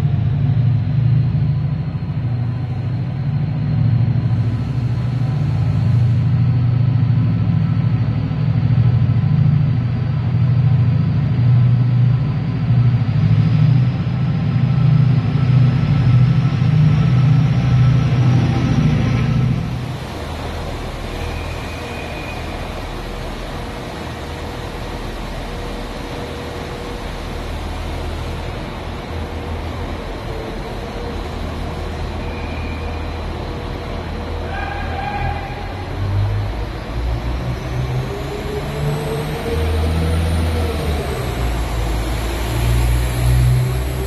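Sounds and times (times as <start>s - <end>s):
diesel train engine idling: 0.0s - 44.0s.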